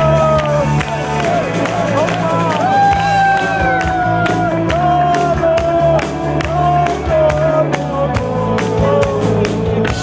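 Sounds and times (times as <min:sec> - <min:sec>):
bass line: 0:00.0 - 0:10.0
drum beat: 0:00.0 - 0:10.0
electric guitar lead: 0:00.0 - 0:10.0.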